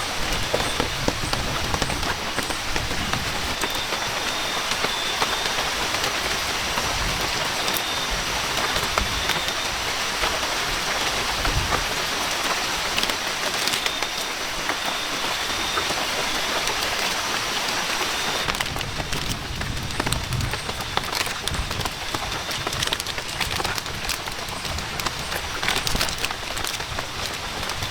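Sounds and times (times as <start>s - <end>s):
heavy rain falling: 0.0s - 27.9s.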